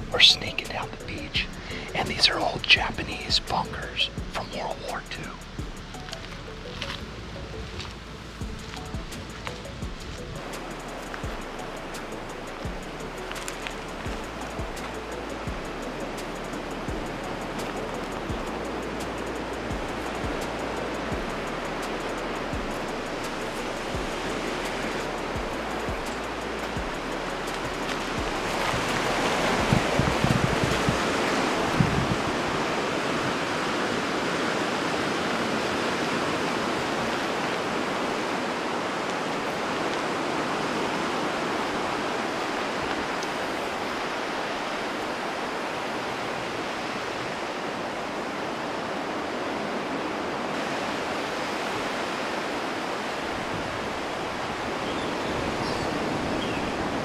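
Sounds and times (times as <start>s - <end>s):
ocean surf: 0.0s - 57.0s.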